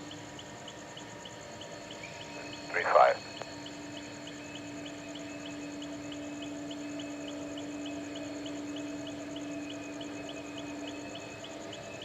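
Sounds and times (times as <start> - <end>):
crickets chirping: 0.0 - 12.0
steady low hum: 1.3 - 12.0.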